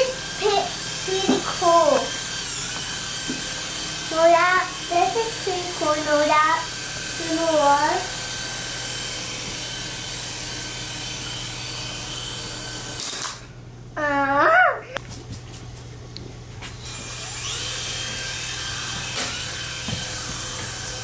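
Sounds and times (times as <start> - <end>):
toy drone motors whining: 0.0 - 13.4, 16.8 - 21.0.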